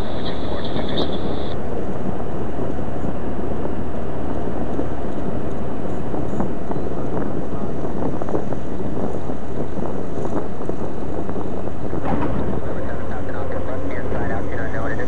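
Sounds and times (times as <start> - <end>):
light aircraft engine at full power: 0.0 - 15.0.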